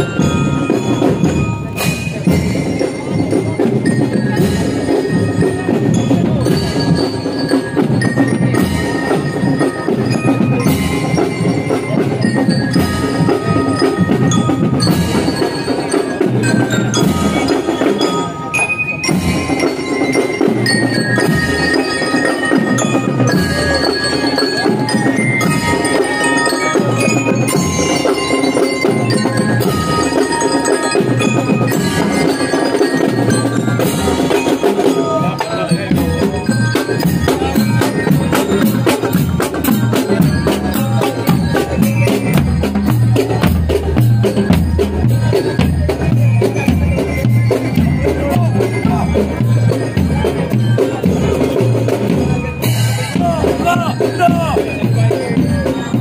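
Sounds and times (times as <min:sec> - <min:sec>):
bell lyres ringing: 0:00.0 - 0:56.0
steady drum beat: 0:00.0 - 0:56.0.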